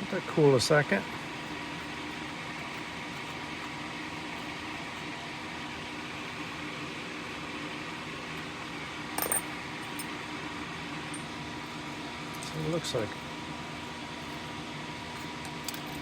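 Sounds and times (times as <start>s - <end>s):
background hum and hiss: 0.0s - 16.0s.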